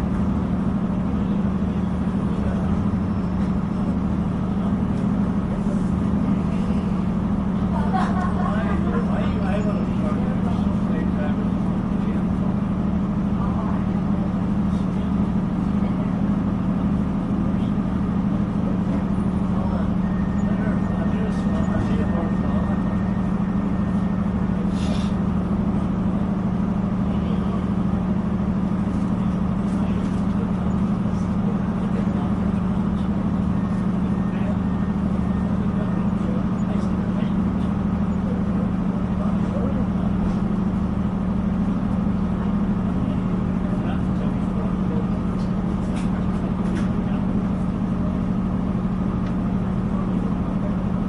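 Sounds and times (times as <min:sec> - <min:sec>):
train running inside carriage: 0:00.0 - 0:51.0.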